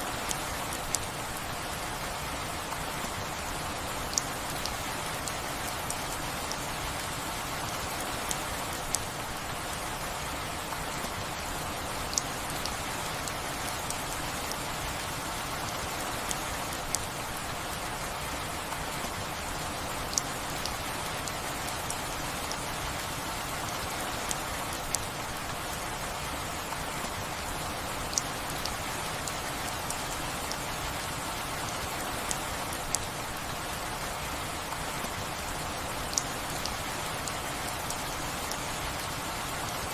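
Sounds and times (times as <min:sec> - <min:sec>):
close raindrops ticking: 0:00.0 - 0:39.9
steady rain falling: 0:00.0 - 0:39.9.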